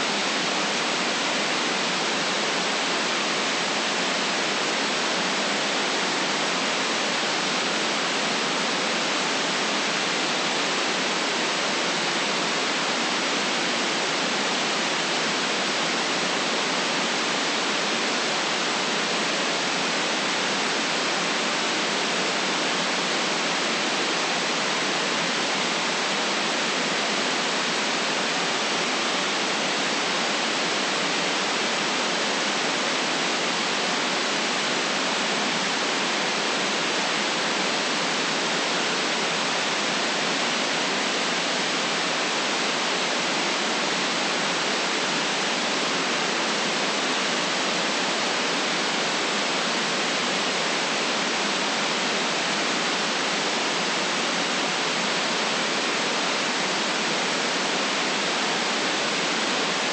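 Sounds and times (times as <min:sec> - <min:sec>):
white-noise hiss: 0:00.0 - 0:59.9.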